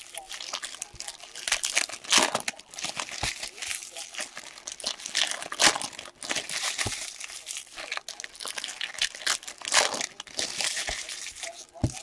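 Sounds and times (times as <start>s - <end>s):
foil wrappers tearing and crinkling: 0.0s - 12.0s.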